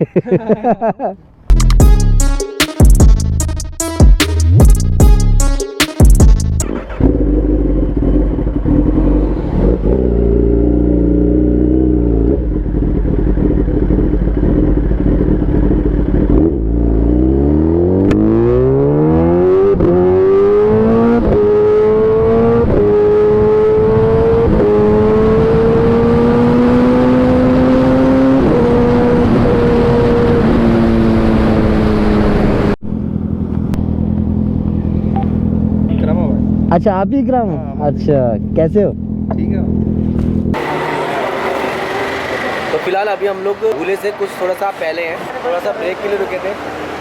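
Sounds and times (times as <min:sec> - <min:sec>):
motorcycle engine accelerating: 0:06.1 - 0:43.8.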